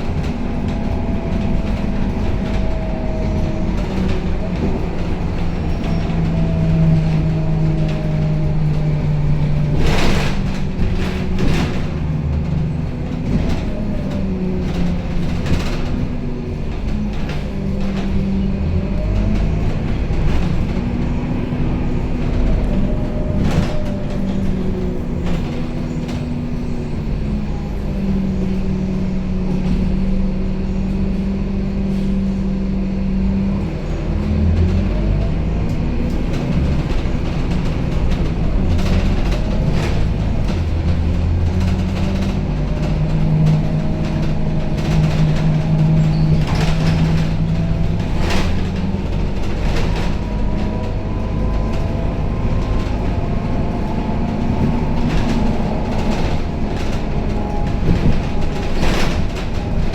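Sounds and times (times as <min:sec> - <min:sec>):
bus engine drone: 0:00.0 - 0:59.9
rattles and clicks from bus body: 0:00.0 - 0:59.9.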